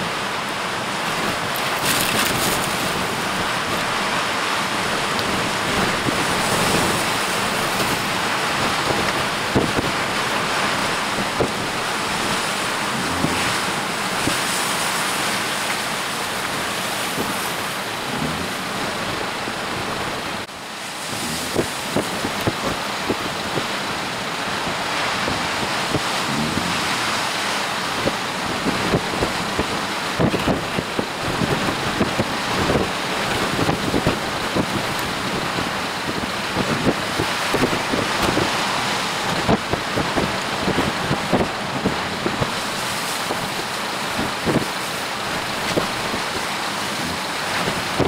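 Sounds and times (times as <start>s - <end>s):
surf rushing: 0.0s - 48.0s
wind buffeting knocks: 1.0s - 48.0s
strong wind on microphone: 1.1s - 15.6s, 16.8s - 48.0s.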